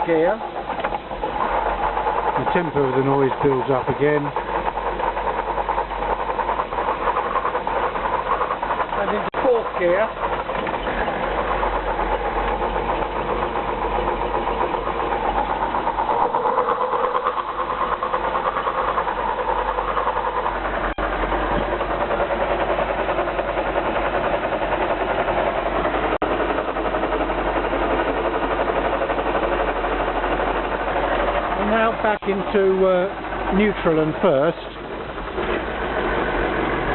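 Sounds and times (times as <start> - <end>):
car engine running: 0.0 - 36.9
gearbox grinding whir: 0.0 - 36.9.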